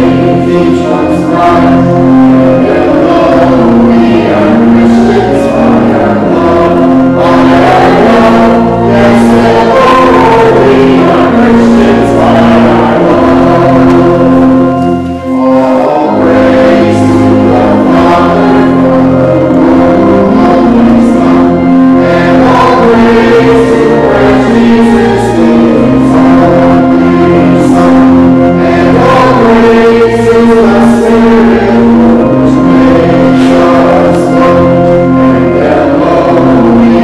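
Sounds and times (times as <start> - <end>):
congregation singing a hymn: 0.0 - 37.0
instrumental held notes: 0.0 - 37.0.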